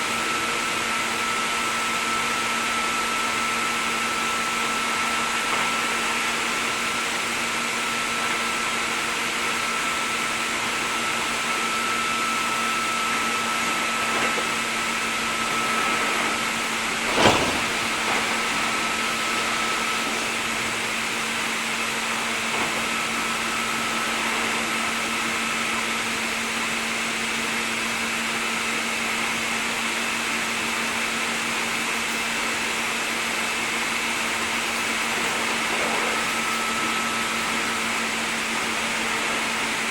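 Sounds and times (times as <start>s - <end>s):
electric train running: 0.0s - 26.5s, 31.0s - 39.9s.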